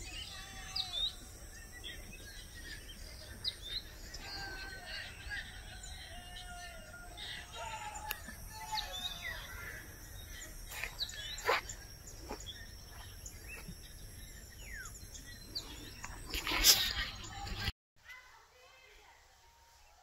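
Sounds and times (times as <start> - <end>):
birds chirping: 0.0 - 17.7
outdoor background noise: 0.0 - 20.0.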